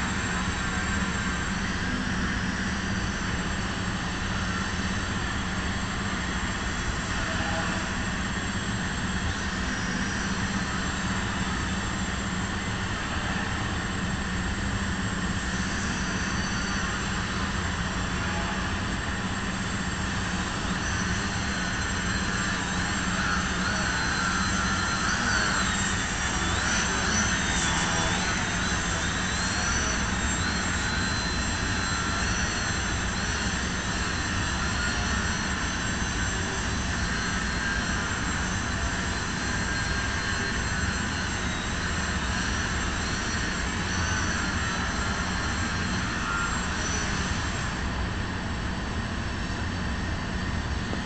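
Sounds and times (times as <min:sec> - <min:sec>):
small electric motor propeller whining: 0:00.0 - 0:51.0.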